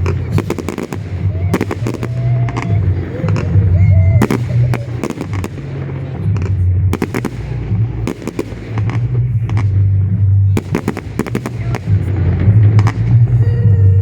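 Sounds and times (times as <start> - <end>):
deep rumble: 0.0 - 14.0
fireworks bangs and crackles: 0.0 - 14.0.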